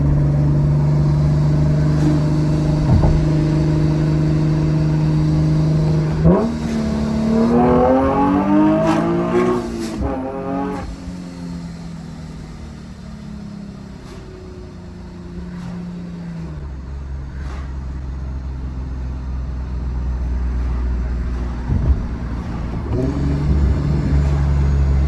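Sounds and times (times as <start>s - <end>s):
car engine off throttle: 0.0s - 25.0s.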